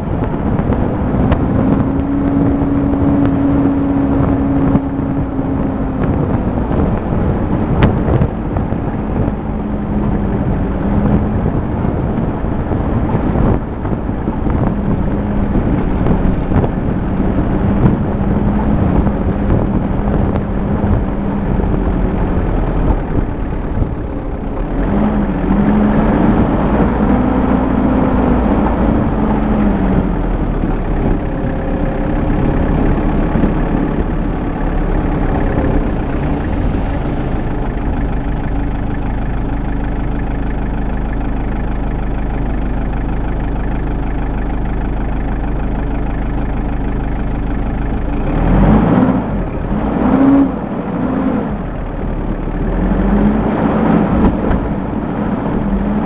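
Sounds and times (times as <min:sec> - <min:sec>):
vehicle engine from inside cabin: 0:00.0 - 0:56.0.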